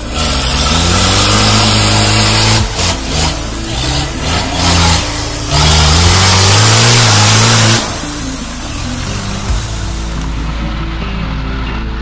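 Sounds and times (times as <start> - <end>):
engine revving hard: 0.0 - 10.3.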